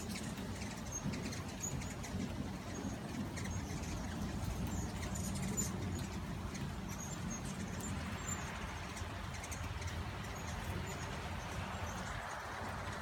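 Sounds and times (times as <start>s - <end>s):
hummingbirds chirping: 0.0s - 13.0s.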